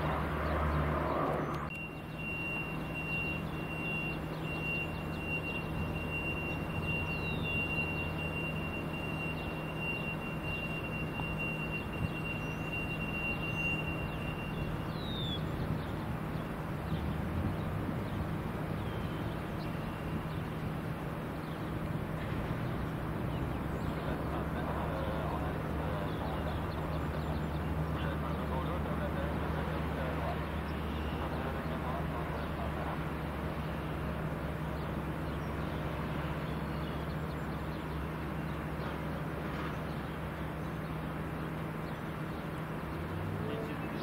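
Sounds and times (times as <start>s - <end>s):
steady engine hum: 0.0s - 44.0s.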